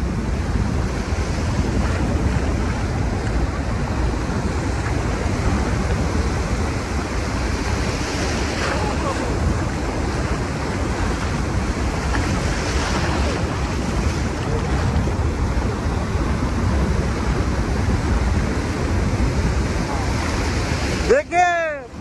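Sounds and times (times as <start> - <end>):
sea surf breaking: 0.0 - 22.0
wind rumbling on microphone: 0.0 - 22.0.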